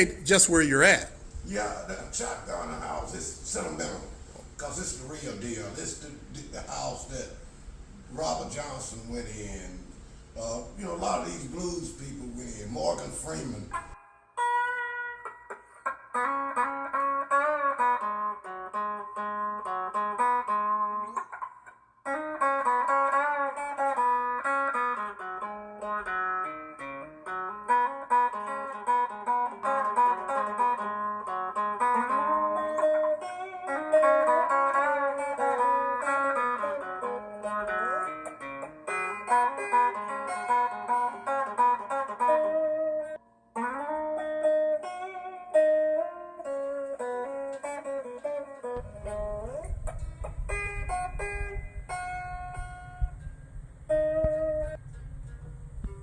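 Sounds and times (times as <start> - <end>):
guitar plucking notes and chords: 0.0 - 3.0, 13.3 - 56.0.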